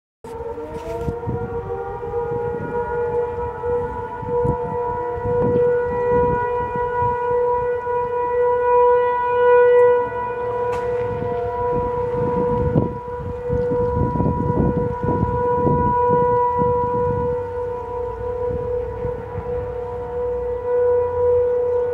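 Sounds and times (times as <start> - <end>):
civil defense siren: 0.2 - 21.9.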